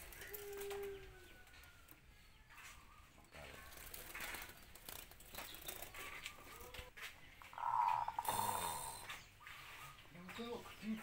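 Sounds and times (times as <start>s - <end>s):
caged birds calling: 0.0s - 11.0s.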